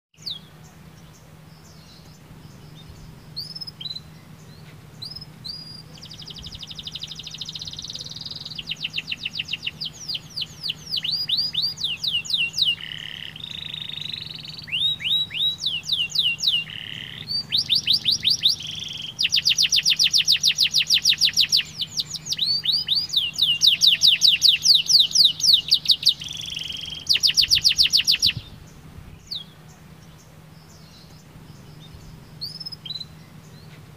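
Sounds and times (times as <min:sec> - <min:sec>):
canary singing: 0:00.2 - 0:33.9.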